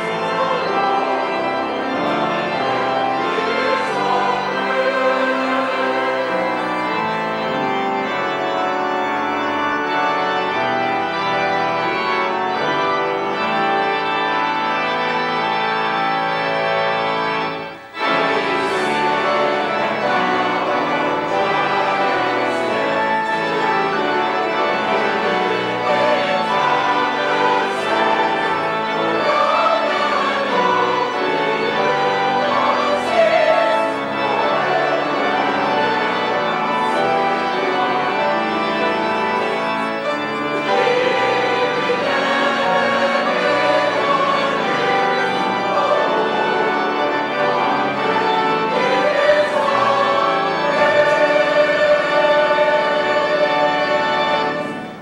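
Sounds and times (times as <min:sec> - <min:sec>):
choir singing: 0:00.0 - 0:55.0
church organ playing hymn chords: 0:00.0 - 0:55.0.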